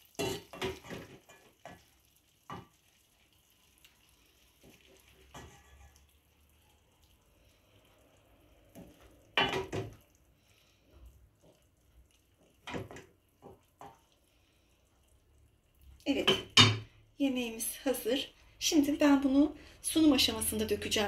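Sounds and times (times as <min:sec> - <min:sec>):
wooden spoon stirring stew: 0:00.0 - 0:17.0.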